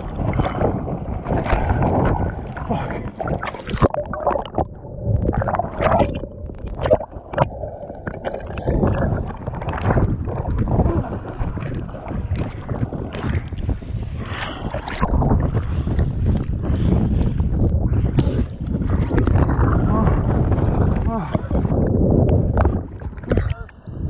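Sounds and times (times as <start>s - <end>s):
water splashing and slapping: 0.0s - 23.8s
wind buffeting microphone: 0.0s - 24.0s.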